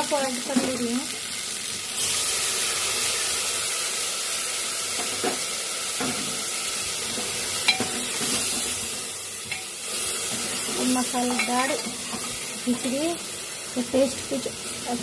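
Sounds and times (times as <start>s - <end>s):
oil hissing and sizzling: 0.0s - 15.0s.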